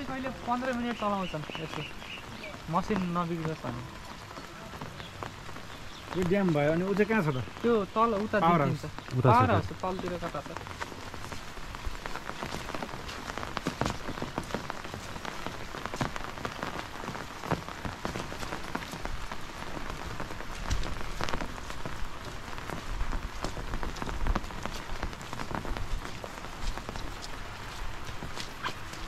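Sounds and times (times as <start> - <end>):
rain pattering on a surface: 0.0 - 29.0.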